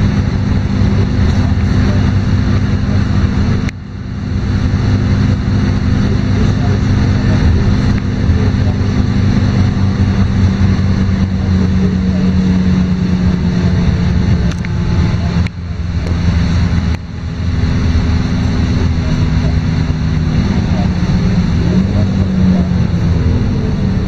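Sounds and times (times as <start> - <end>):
bus diesel engine from inside: 0.0 - 24.0.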